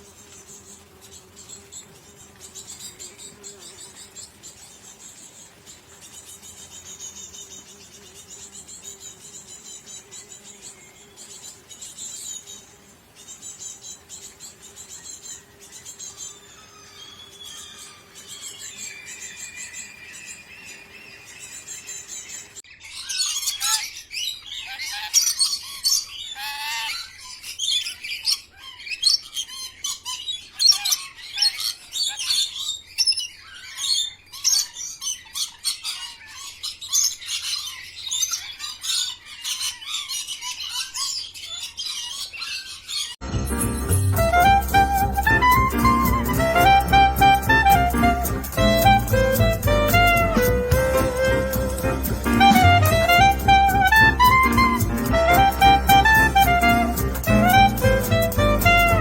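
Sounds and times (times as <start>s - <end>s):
birds chirping: 0.0s - 59.0s
birds squawking: 8.8s - 43.2s, 44.0s - 59.0s.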